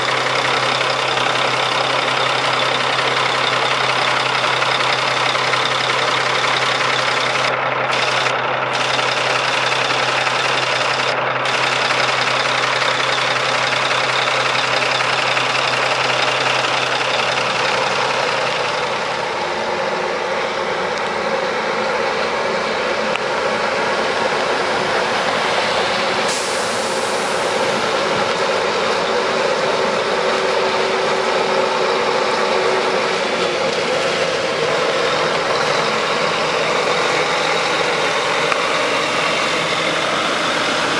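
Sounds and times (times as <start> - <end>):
diesel truck engine idling: 0.0 - 40.9
truck driving: 0.0 - 40.9.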